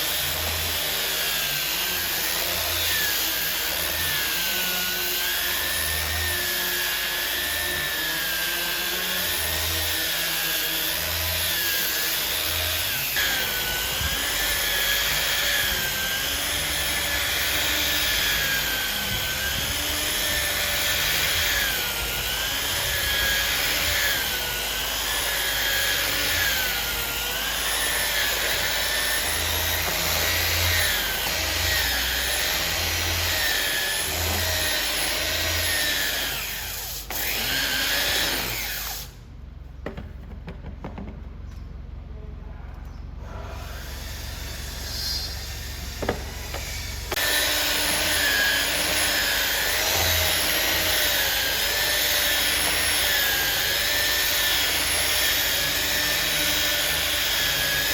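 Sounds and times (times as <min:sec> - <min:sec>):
power tool motor whine: 0:00.0 - 0:39.2, 0:43.4 - 0:57.9.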